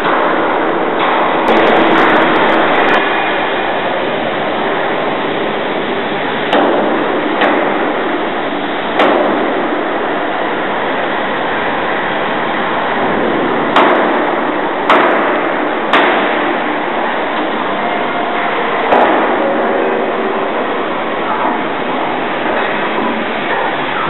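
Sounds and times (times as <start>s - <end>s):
workshop noise: 0.0s - 24.0s.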